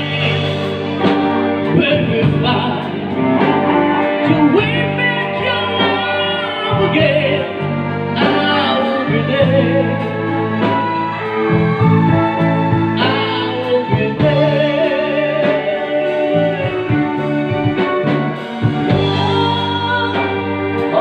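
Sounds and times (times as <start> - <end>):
electric guitar: 0.0 - 21.0
person singing into microphone: 0.0 - 21.0
sustained backing notes: 0.0 - 21.0.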